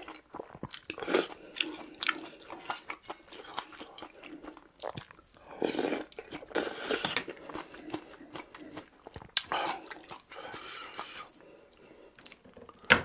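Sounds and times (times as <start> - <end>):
wet chewing: 0.0 - 12.5.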